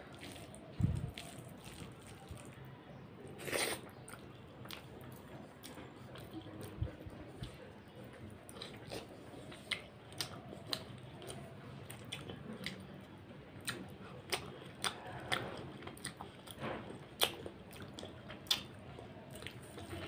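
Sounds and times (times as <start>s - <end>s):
wet chewing with mouth clicks: 0.0s - 2.7s, 3.3s - 20.0s
fingers squishing rice in curry: 0.0s - 20.0s.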